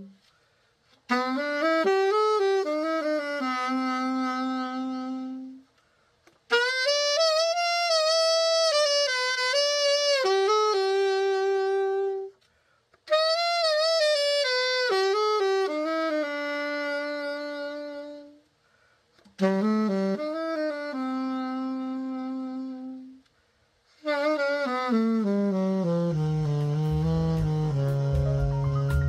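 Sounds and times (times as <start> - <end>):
alto saxophone melody: 0.0 - 29.0.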